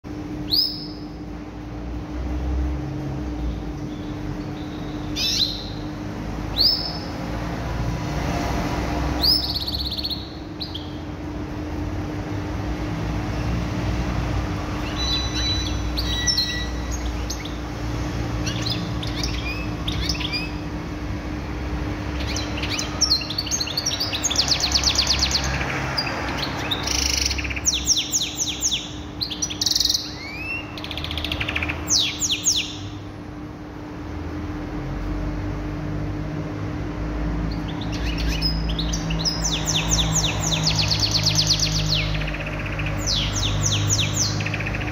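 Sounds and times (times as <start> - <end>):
canary singing: 0.0 - 1.4, 3.3 - 7.8, 9.0 - 33.1, 37.1 - 44.9
steady low hum: 0.0 - 44.9.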